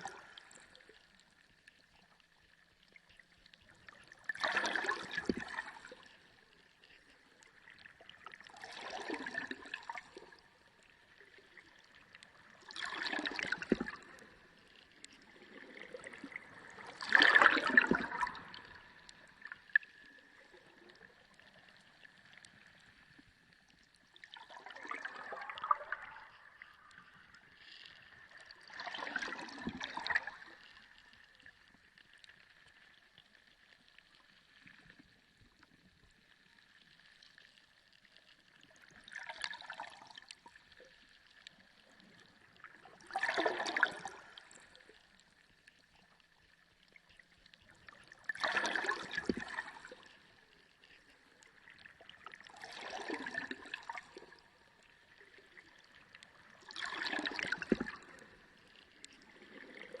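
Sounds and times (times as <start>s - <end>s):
water surging and gurgling: 0.0s - 35.7s, 36.7s - 60.0s.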